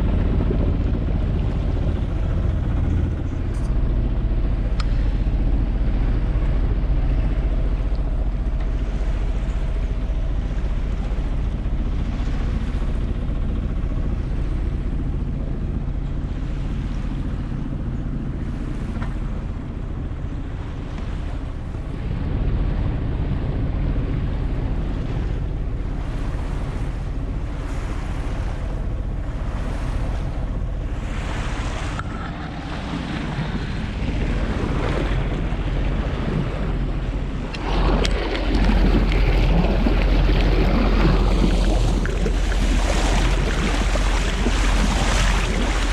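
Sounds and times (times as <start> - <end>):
boat engine humming: 0.0 - 45.9
water rushing along hull: 0.0 - 45.9
wind buffeting microphone: 0.0 - 45.9.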